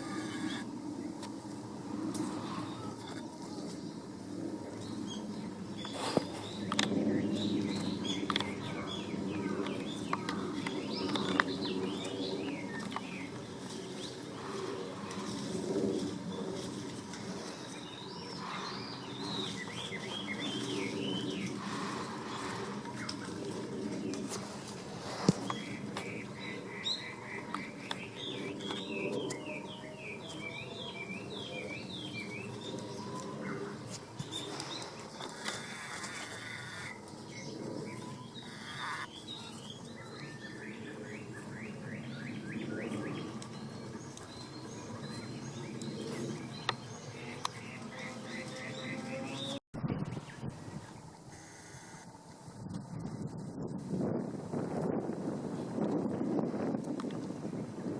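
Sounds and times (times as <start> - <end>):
small birds chirping: 0.0 - 52.2.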